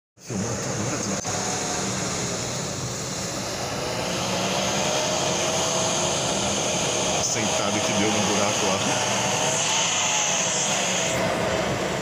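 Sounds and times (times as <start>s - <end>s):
car engine running: 0.2s - 12.0s.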